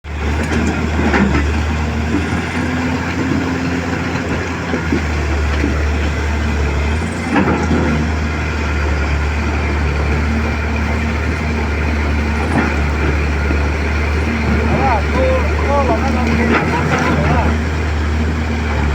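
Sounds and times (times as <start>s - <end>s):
excavator diesel engine running: 0.0s - 18.9s.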